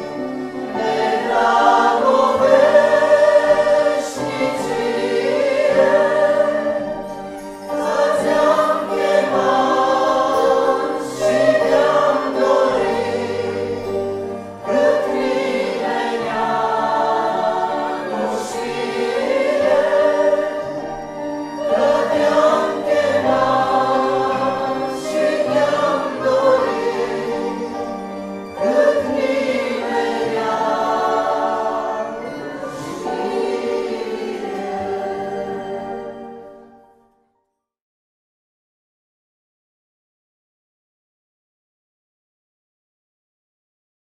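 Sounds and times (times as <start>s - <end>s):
group singing a hymn: 0.0s - 36.7s
violin: 0.0s - 37.0s
cello: 0.0s - 37.2s
keyboard: 0.0s - 37.4s.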